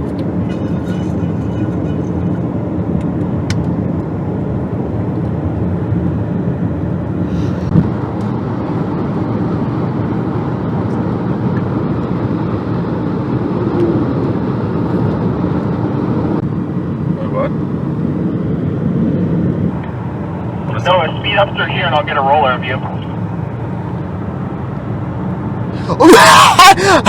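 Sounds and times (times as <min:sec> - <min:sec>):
car engine and tyre rumble: 0:00.0 - 0:27.0.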